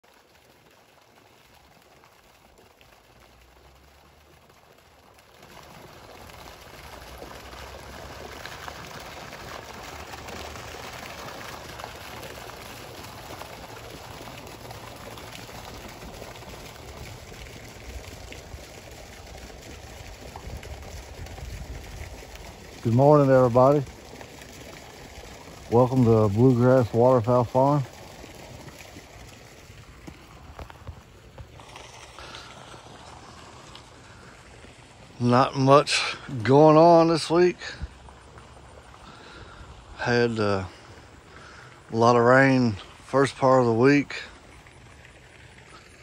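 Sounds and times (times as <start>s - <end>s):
water jet splashing into pond: 0.0s - 46.0s.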